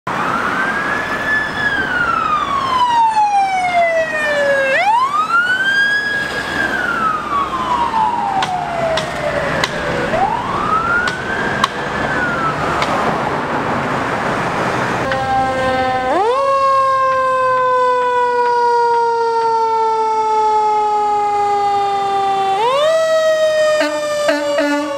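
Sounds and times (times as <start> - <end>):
emergency vehicle siren wailing: 0.1 - 24.9
traffic noise: 0.1 - 24.9.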